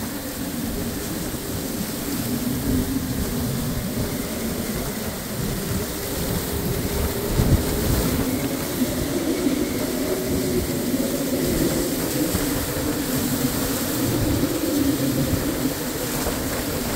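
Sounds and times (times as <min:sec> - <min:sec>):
heavy rain: 0:00.0 - 0:16.9
hurricane wind: 0:00.0 - 0:16.9.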